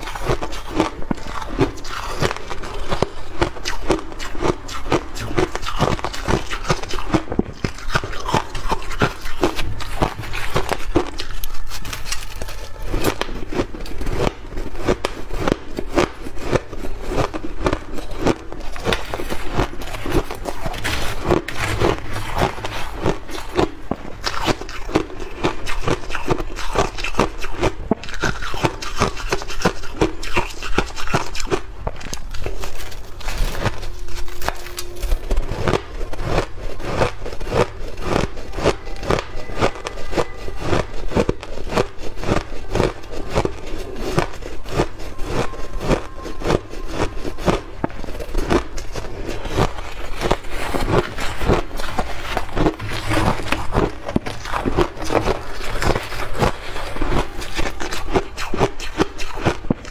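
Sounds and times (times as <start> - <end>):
ice being chewed: 0.0 - 59.9
metal spoon scraping ice: 0.0 - 59.9.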